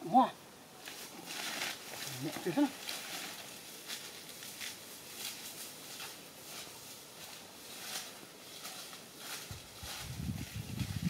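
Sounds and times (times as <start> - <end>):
footsteps through dry grass: 0.8 - 11.0.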